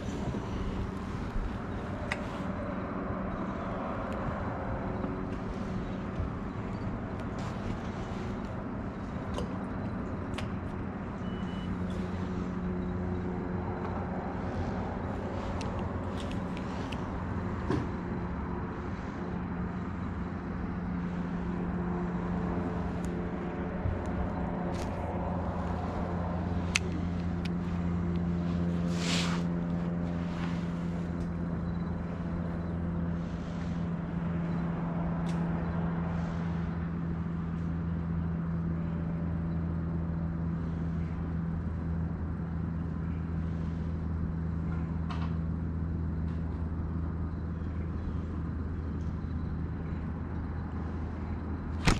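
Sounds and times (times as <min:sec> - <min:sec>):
boat engine idling: 0:00.0 - 0:51.9.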